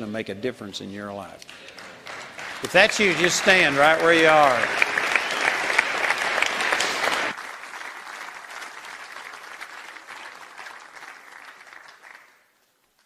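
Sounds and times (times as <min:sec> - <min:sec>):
audience applauding: 0:01.5 - 0:13.0.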